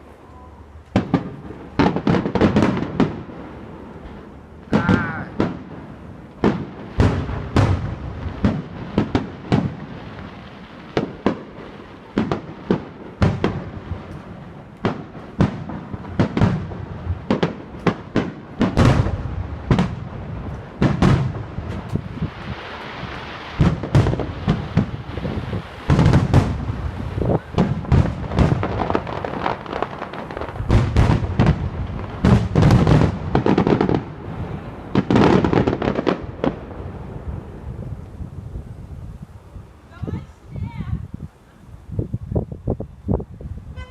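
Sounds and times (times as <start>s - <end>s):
fireworks explosions: 0.0s - 41.1s
hissing crackle: 0.0s - 43.9s.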